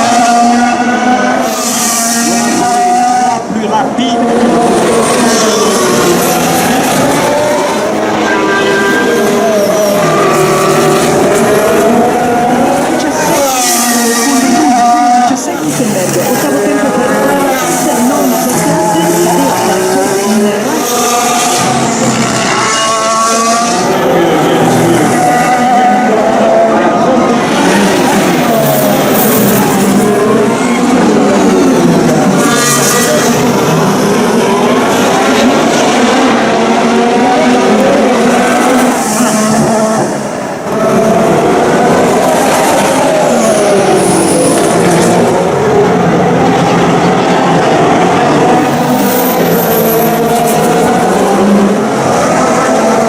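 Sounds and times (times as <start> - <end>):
racing car engines: 0.0 - 53.0.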